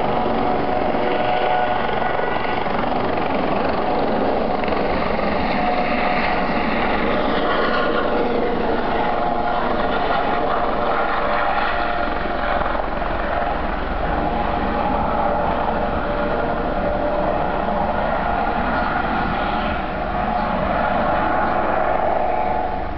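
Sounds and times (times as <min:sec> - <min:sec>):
helicopter rotor and engine drone: 0:00.0 - 0:22.9.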